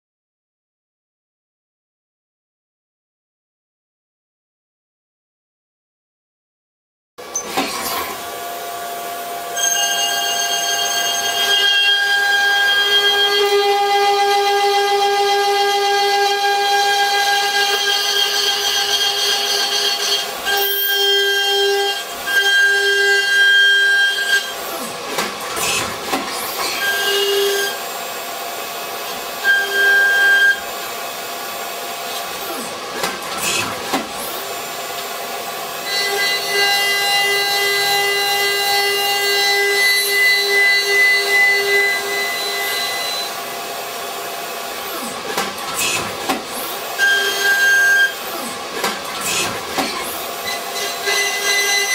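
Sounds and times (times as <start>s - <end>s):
machine cutting whine: 9.2s - 51.9s.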